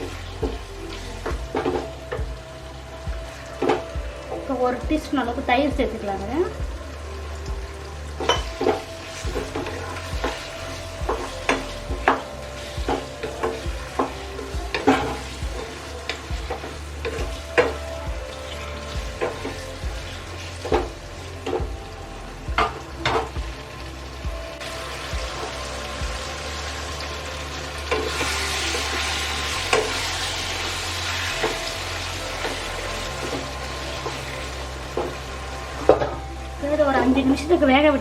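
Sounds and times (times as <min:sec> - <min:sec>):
chicken sizzling in a pan: 0:00.0 - 0:38.0.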